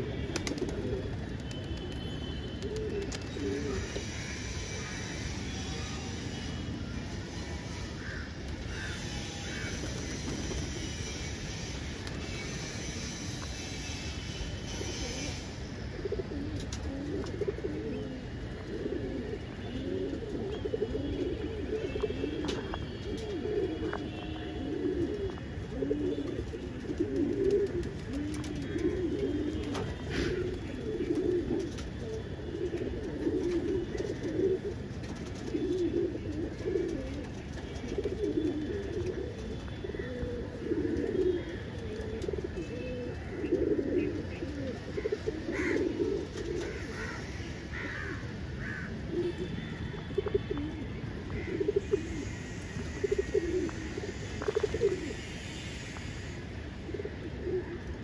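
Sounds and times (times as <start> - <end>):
pigeons cooing: 0.0 - 1.4, 2.6 - 5.3, 8.7 - 58.0.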